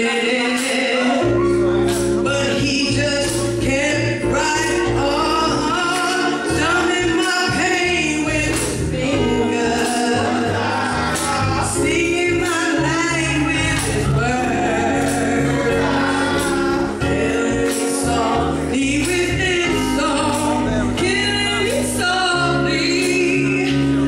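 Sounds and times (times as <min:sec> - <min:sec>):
woman singing: 0:00.0 - 0:01.4, 0:02.2 - 0:24.0
keyboard chords: 0:00.0 - 0:24.0
bass notes: 0:01.2 - 0:24.0.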